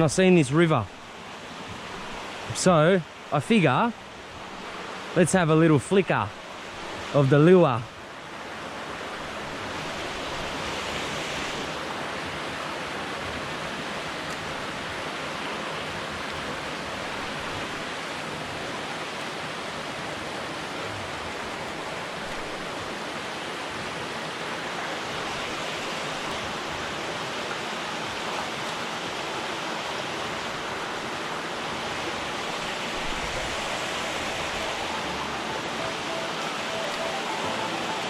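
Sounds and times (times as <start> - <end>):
river water rushing over rocks: 0.0 - 38.0.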